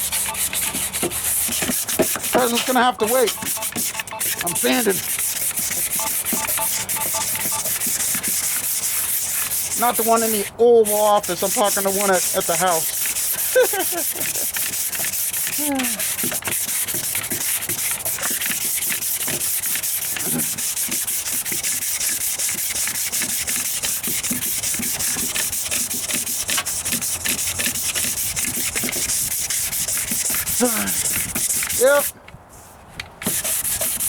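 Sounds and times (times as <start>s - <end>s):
hand sanding scratching: 0.0s - 32.1s, 33.2s - 34.0s.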